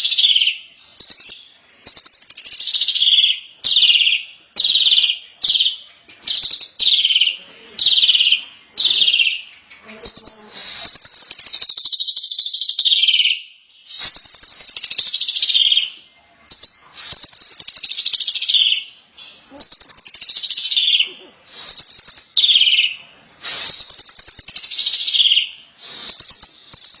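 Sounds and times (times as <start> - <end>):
myna bird harsh rattling song: 0.0 - 27.0.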